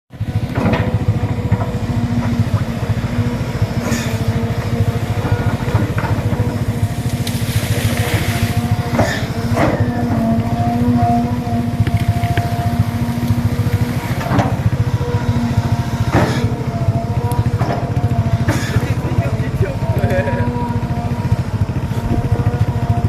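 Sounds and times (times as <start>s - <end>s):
excavator diesel engine running: 0.1s - 23.0s
hydraulic whine: 0.1s - 23.0s.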